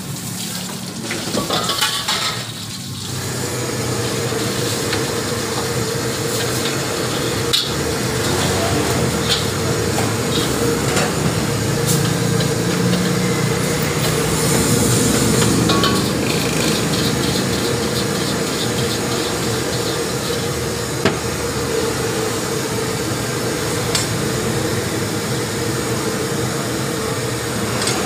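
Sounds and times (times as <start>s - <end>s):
wok scrubbing: 0.0s - 26.5s
gas burner roar: 0.0s - 28.0s
water hissing in hot wok: 0.0s - 28.0s.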